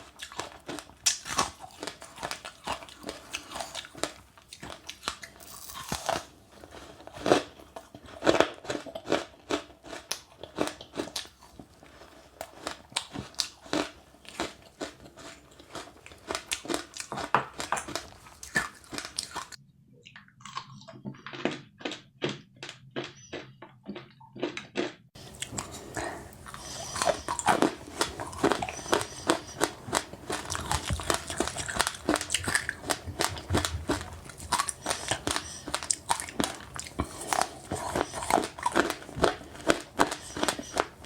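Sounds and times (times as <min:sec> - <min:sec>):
person chewing crunchy seeds: 0:00.0 - 0:19.6, 0:20.4 - 0:41.0.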